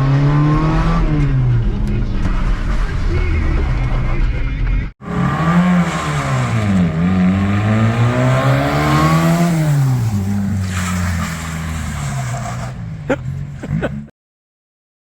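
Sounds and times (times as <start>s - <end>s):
car engine accelerating: 0.0s - 14.1s.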